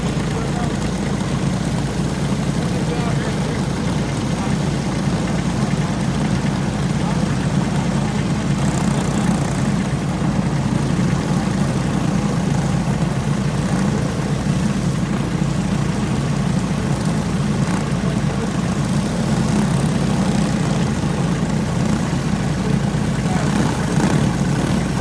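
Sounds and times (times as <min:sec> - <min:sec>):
go-kart engines idling: 0:00.0 - 0:25.0.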